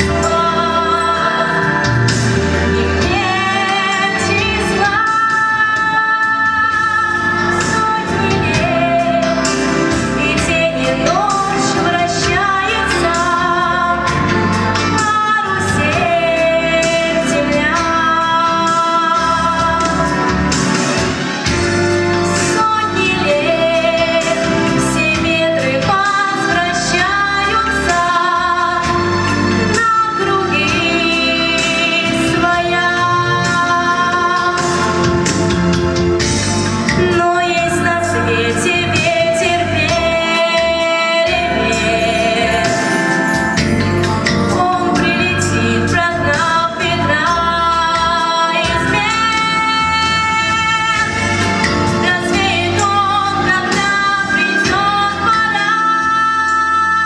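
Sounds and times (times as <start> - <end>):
young woman singing with vibrato: 0.0 - 35.8, 36.8 - 57.0
instrumental accompaniment with beat: 0.0 - 57.0.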